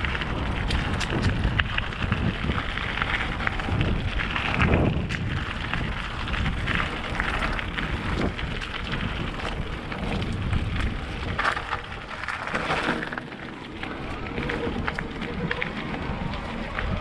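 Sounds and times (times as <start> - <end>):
crackles: 0.0 - 17.0
wind rushing over microphone: 0.0 - 17.0.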